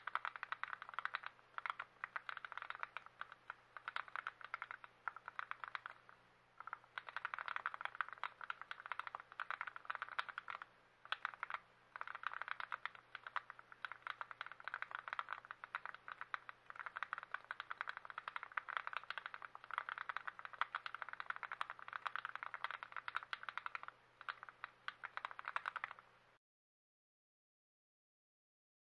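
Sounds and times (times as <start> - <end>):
mechanical keyboard typing: 0.0 - 26.0.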